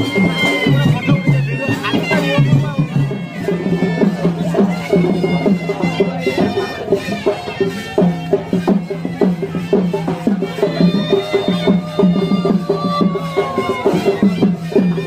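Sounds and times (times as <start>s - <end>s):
quick drum strokes: 0.0s - 15.0s
reed wind instrument melody: 0.0s - 15.0s.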